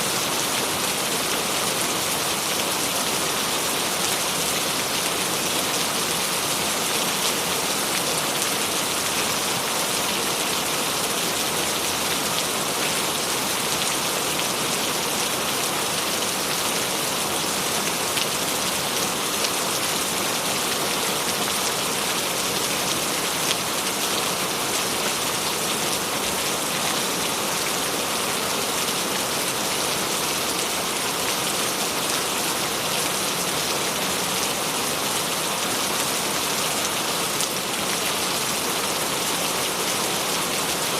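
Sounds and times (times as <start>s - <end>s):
steady rainfall hiss: 0.0s - 40.9s.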